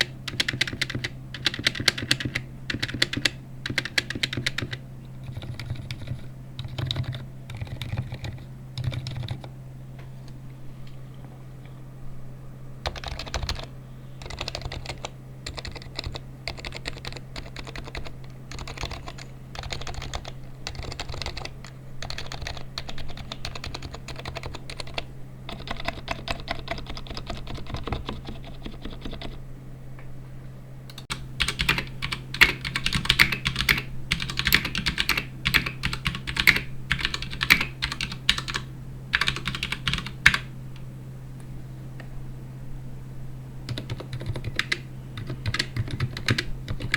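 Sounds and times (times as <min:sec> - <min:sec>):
typing on computer keyboard: 0:00.0 - 0:09.5, 0:12.9 - 0:29.4, 0:31.0 - 0:40.5, 0:43.7 - 0:46.9.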